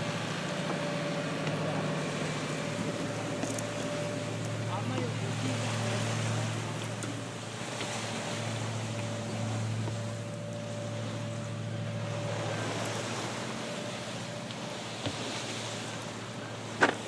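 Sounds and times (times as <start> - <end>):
steady low hum: 0.0 - 17.0
wind and water rushing over hull: 0.0 - 17.0.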